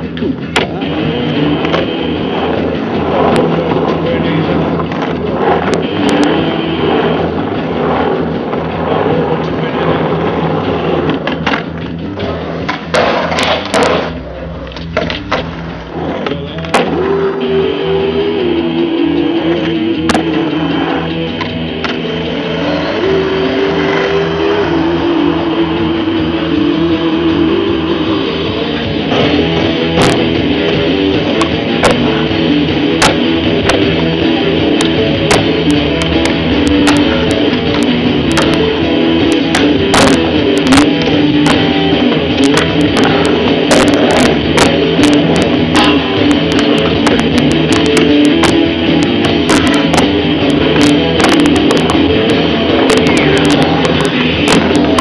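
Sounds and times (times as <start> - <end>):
rock music with electric guitar: 0.0 - 55.0.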